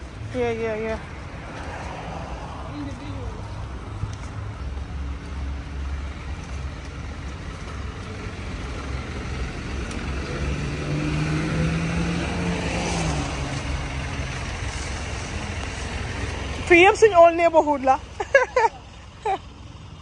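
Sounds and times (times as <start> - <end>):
city street traffic: 0.0 - 20.0
vehicle engine passing: 0.0 - 20.0.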